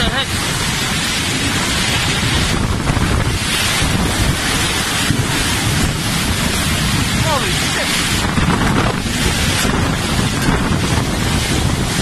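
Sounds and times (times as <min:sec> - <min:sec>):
heavy rain: 0:00.0 - 0:12.0
wind buffeting microphone: 0:00.0 - 0:12.0.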